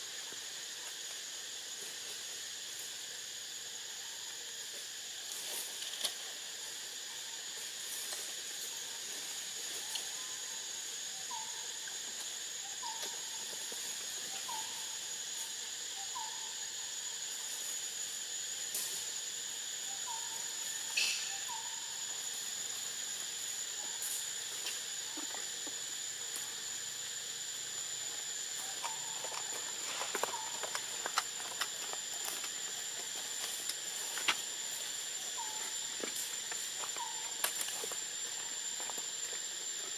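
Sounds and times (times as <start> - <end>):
even hiss: 0.0 - 39.9
insects droning: 0.0 - 39.9.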